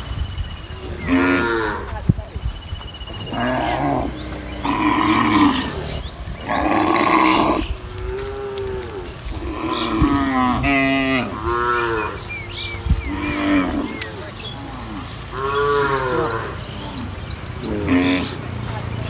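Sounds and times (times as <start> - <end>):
cattle mooing: 1.0 - 2.0, 3.2 - 18.6.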